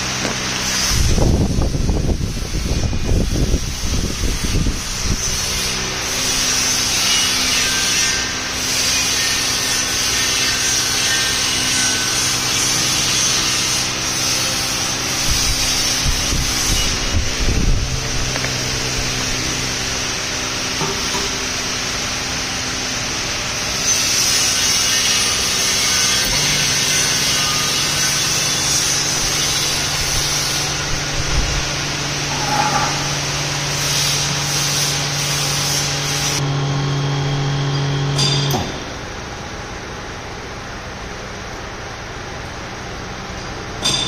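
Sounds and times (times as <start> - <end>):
vacuum pump humming and hissing: 0.0 - 44.0.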